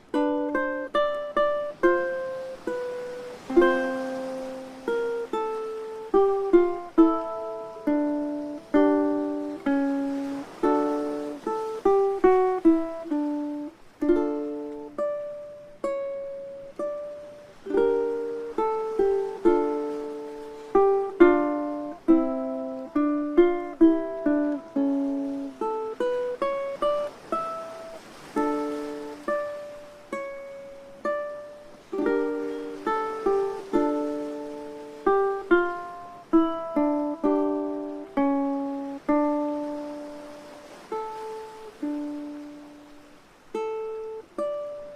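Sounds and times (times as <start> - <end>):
ukulele music: 0.0 - 44.9.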